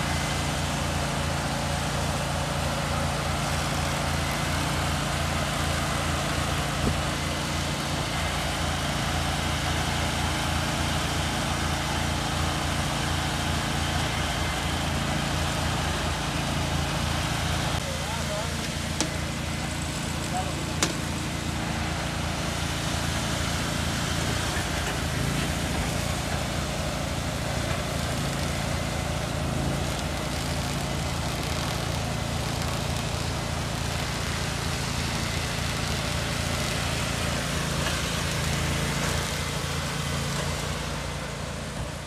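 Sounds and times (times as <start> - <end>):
motor running with pulsing hum: 0.0 - 42.0.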